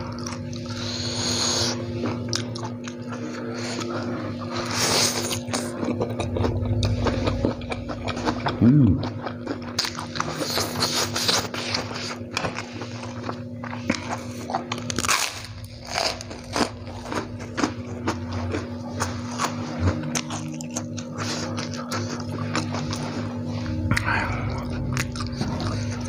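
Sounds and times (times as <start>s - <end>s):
chewing noodles: 0.0s - 26.0s.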